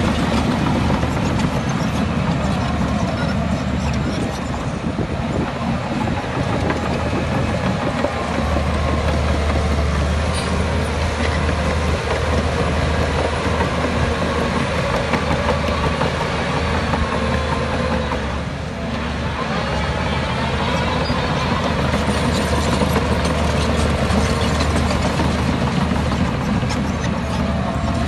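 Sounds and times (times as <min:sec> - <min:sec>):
diesel machinery engine hum: 0:00.0 - 0:28.0.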